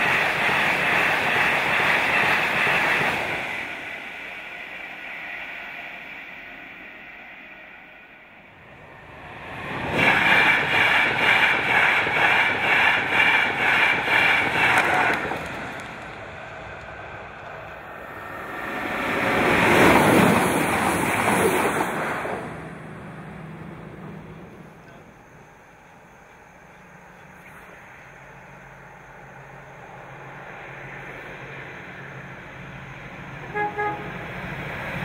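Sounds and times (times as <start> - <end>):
train passing: 0.0 - 35.0.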